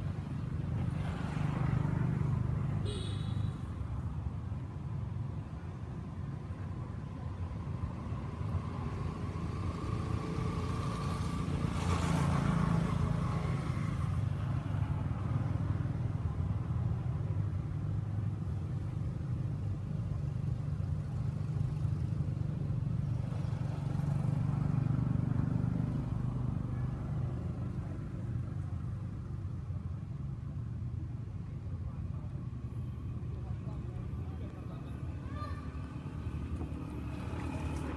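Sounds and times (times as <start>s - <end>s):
road traffic rumble: 0.0s - 37.9s
vehicles passing: 0.0s - 37.9s.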